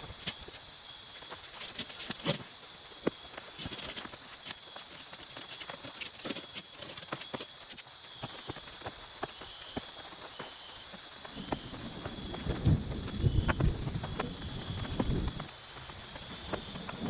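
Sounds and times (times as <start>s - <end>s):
raindrops on tent fabric: 0.0s - 17.0s.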